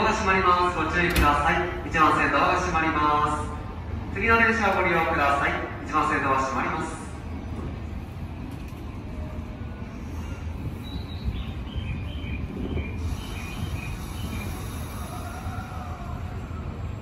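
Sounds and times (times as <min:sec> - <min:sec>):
electric train humming: 0:00.0 - 0:17.0
station noise: 0:00.0 - 0:17.0.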